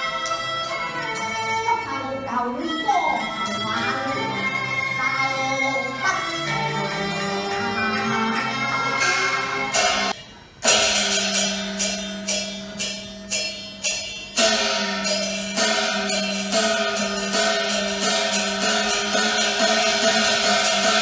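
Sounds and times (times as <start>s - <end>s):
opera ensemble melody: 0.0s - 21.0s
sharp percussion strikes: 0.0s - 21.0s.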